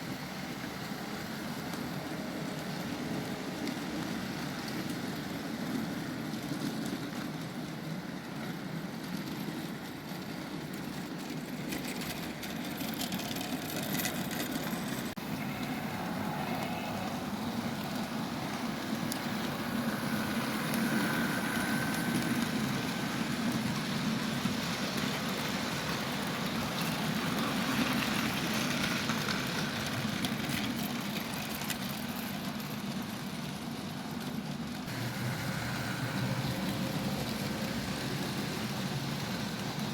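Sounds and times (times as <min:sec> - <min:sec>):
wheels rattling on track: 0:00.0 - 0:39.9.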